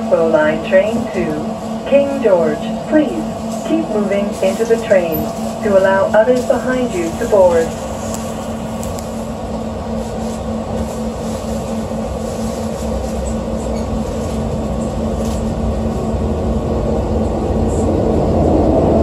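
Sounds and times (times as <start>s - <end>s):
train car hum and rumble: 0.0s - 19.0s.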